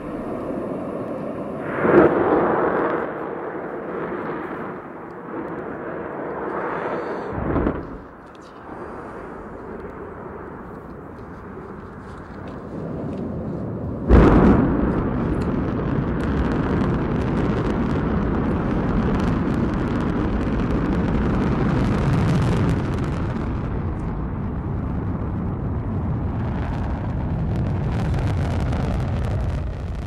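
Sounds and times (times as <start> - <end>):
rocket engine rumble: 0.0 - 30.0.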